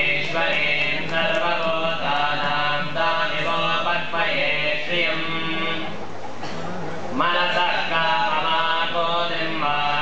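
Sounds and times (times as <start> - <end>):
voices chanting: 0.0 - 10.0.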